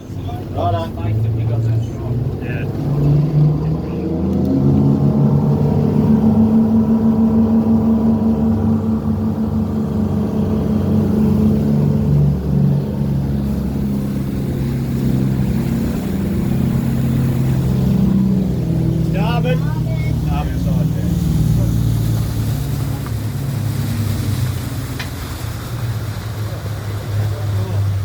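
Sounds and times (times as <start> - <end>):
motorboat engine running: 0.0 - 28.0.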